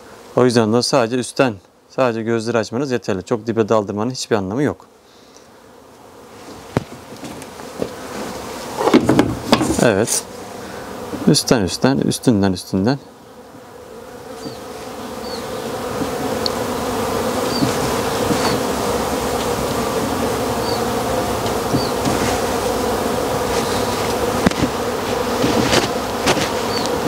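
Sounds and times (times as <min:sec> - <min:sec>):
swarm of bees buzzing: 0:00.0 - 0:27.0.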